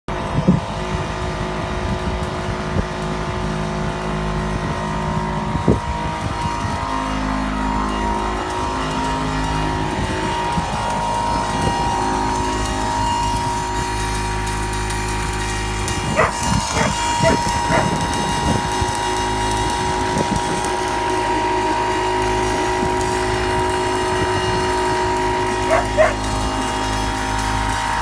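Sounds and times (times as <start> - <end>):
welding arc humming: 0.1 - 28.0.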